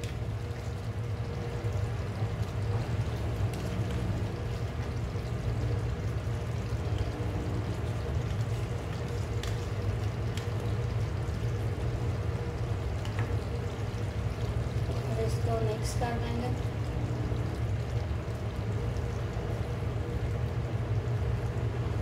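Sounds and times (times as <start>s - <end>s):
kitchen hum and hiss: 0.0s - 22.0s.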